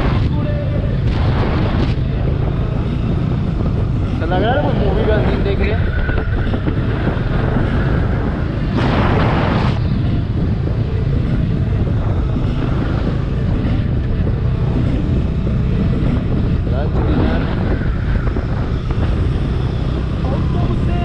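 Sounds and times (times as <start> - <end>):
motorcycle engine rumble: 0.0 - 21.0
wind on microphone: 0.0 - 21.0.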